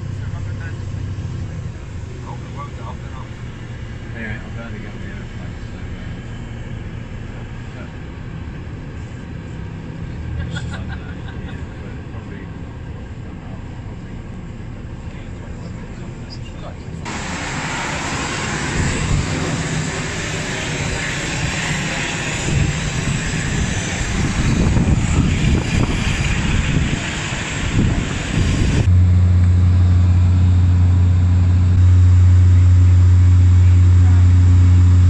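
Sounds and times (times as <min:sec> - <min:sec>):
propeller drone: 0:00.0 - 0:35.0
turboprop engine rushing: 0:00.0 - 0:35.0.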